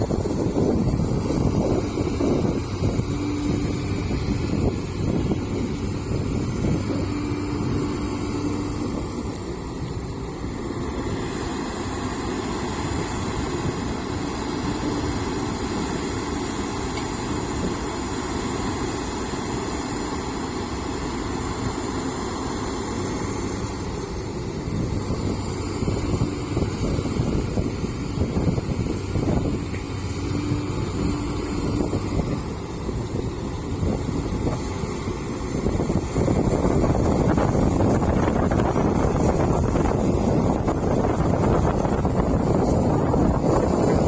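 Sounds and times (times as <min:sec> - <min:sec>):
diesel engine running: 0:00.0 - 0:44.0
faint high whine: 0:00.0 - 0:44.0.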